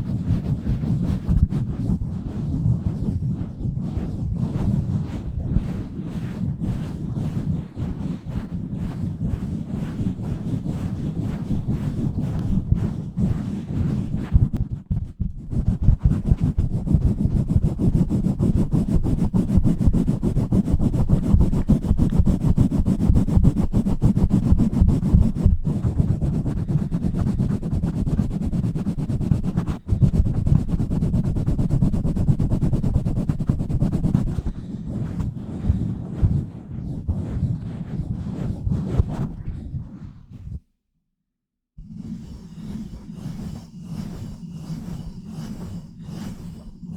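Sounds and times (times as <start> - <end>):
hands rubbing on microphone: 0.0 - 40.6, 42.0 - 46.9.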